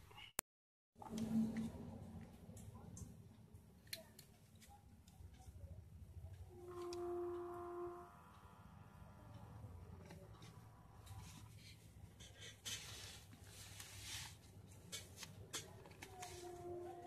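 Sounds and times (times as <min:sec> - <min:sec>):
low steady hum: 0:01.0 - 0:17.0.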